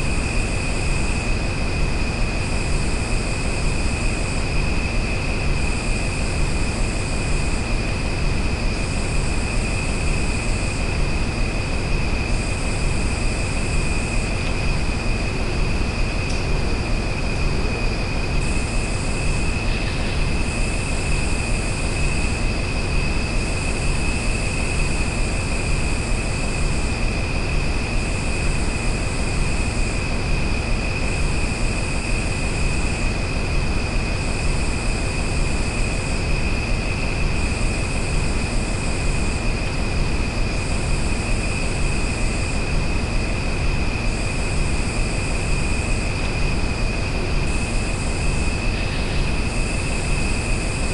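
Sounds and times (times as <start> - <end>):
pulsing high buzz: 0.0 - 50.9
steady high whine: 0.0 - 50.9
steady rushing noise: 1.2 - 50.9.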